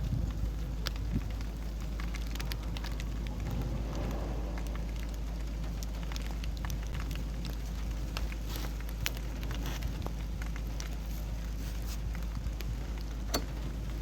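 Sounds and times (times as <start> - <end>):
low rumble: 0.0 - 14.0
rain drops clicking: 0.0 - 14.0.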